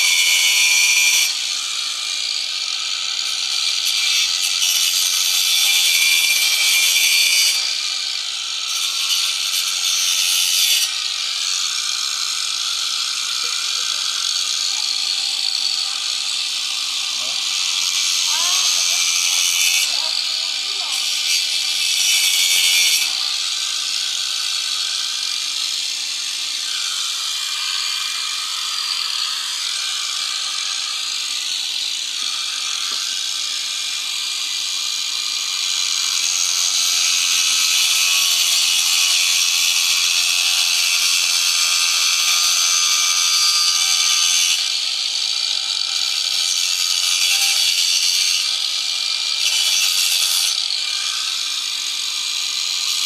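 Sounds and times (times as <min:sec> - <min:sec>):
power tool rasping on wood: 0:00.0 - 0:53.0.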